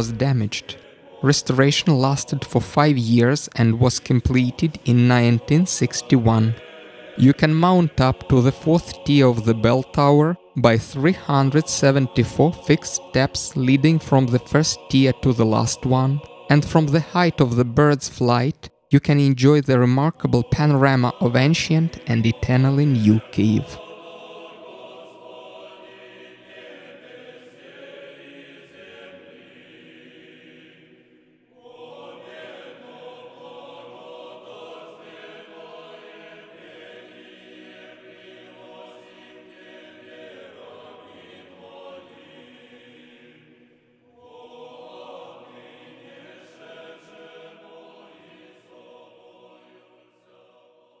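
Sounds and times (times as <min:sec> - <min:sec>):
choral chant: 0:00.0 - 0:51.0.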